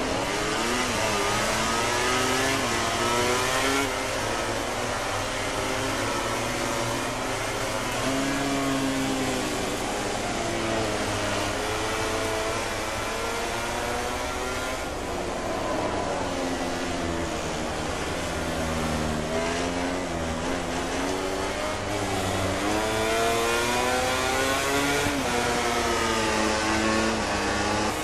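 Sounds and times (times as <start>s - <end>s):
racing motorcycle engines revving: 0.0s - 28.0s.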